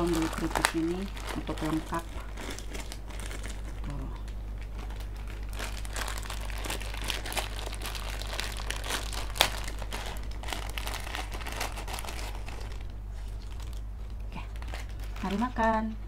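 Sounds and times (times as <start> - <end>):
plastic snack bag crinkling: 0.0 - 15.8.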